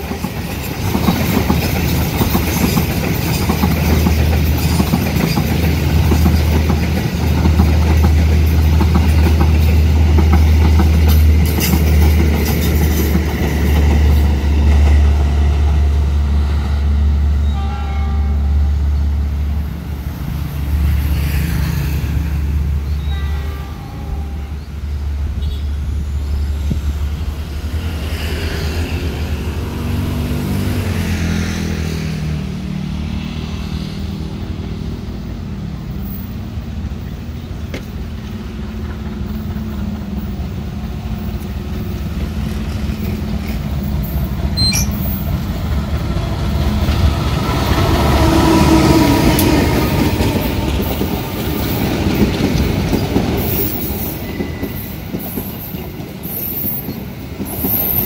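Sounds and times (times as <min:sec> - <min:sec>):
diesel train passing: 0:00.0 - 0:58.0.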